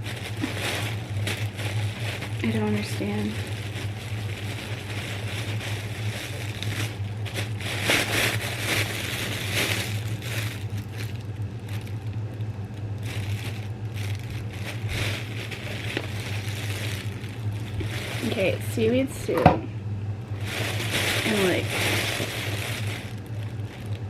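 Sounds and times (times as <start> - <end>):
plastic packaging rustling: 0.0 - 19.3, 20.3 - 24.0
steady low hum: 0.0 - 24.0.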